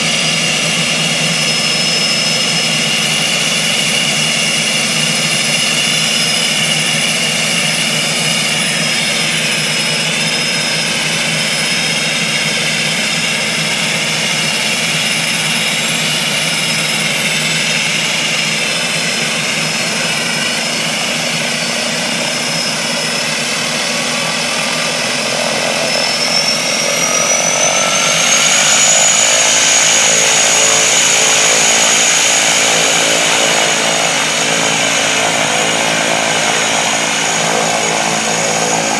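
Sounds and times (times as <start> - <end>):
high turbine whine: 0.0 - 38.9
propeller drone: 0.0 - 38.9.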